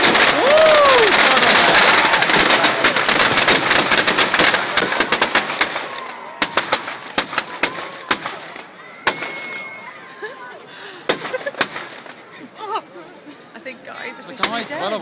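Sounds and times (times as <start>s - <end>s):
fireworks crackling and popping: 0.0s - 9.9s, 11.0s - 12.4s, 14.2s - 15.0s.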